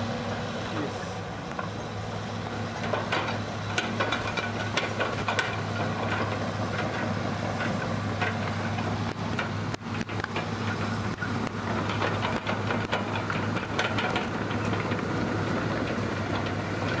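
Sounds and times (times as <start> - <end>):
excavator diesel engine running: 0.0 - 17.0
excavator bucket knocks and clanks: 2.8 - 17.0.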